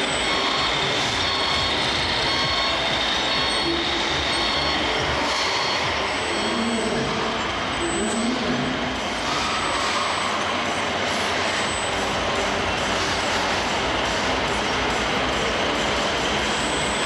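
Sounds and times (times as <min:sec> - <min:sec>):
hubbub of exhibition hall crowd: 0:00.0 - 0:17.0.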